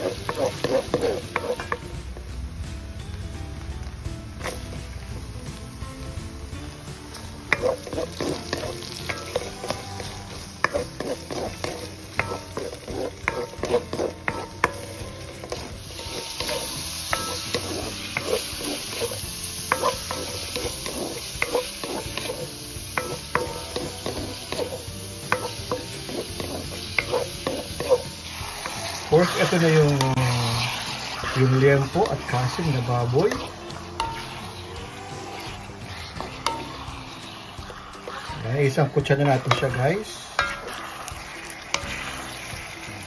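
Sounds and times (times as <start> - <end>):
wooden spatula scraping a pan: 0.0 - 1.9, 7.1 - 43.0
food sizzling in a wok: 0.0 - 43.0.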